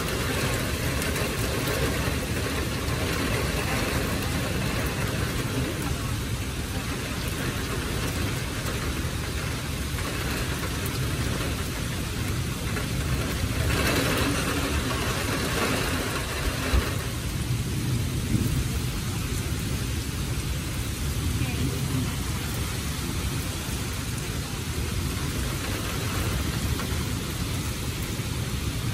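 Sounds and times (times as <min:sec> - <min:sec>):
heavy rain falling: 0:00.0 - 0:28.9
low thunder rumble: 0:00.0 - 0:28.9.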